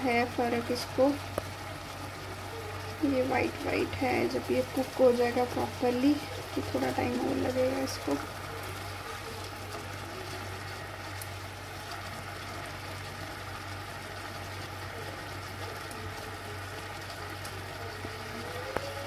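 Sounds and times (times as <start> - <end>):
gravy simmering and sizzling: 0.0 - 19.0
low steady hum: 0.0 - 19.0.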